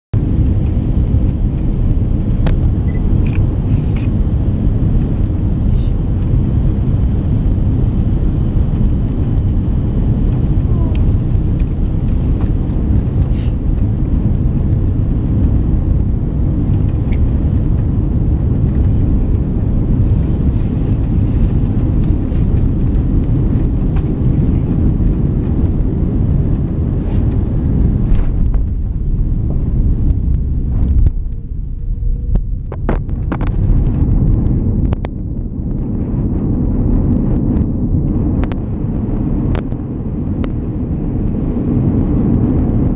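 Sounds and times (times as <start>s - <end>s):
aircraft cabin engine rumble: 0.1s - 42.9s.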